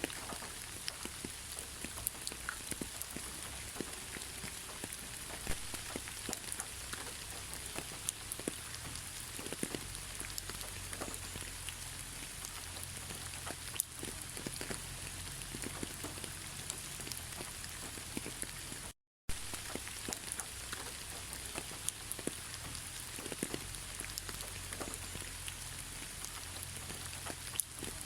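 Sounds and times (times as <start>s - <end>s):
raindrops ticking on a surface: 0.0s - 28.0s
steady rain hiss: 0.0s - 28.0s.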